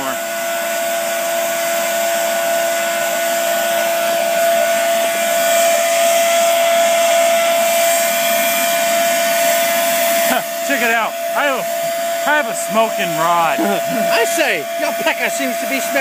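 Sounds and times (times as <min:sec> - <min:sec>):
forge air blower rushing: 0:00.0 - 0:16.0.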